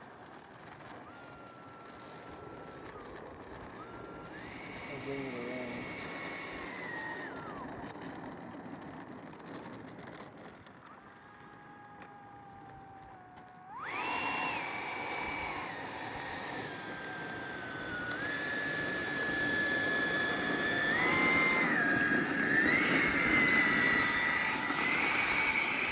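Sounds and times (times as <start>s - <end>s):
electric ducted fan whining: 0.0s - 25.9s.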